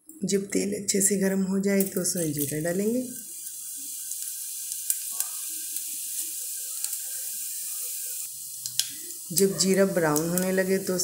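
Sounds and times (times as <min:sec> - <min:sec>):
seeds sizzling in hot oil: 0:00.3 - 0:11.0
oil popping and crackling: 0:01.7 - 0:11.0.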